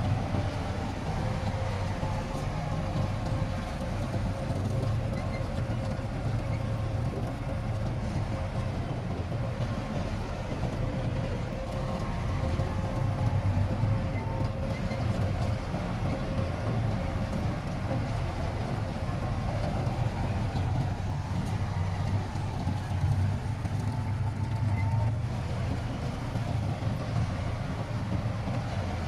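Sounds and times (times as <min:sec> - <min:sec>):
diesel machinery engine rumble: 0:00.0 - 0:29.0.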